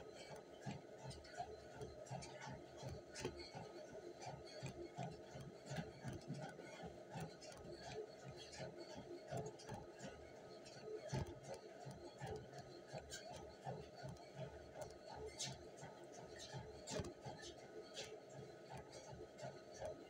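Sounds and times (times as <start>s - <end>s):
running footsteps on treadmill: 0.0s - 20.0s.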